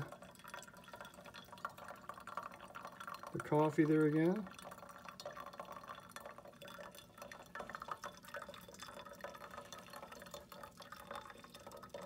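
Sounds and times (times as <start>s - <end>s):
water trickling onto coffee grounds: 0.0s - 12.0s.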